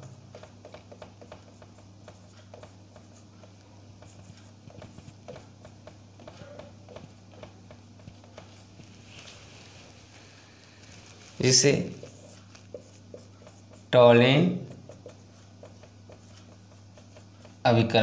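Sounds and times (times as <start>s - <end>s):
marker writing on whiteboard: 0.0s - 9.2s, 11.4s - 18.0s
steady low hum: 0.0s - 18.0s.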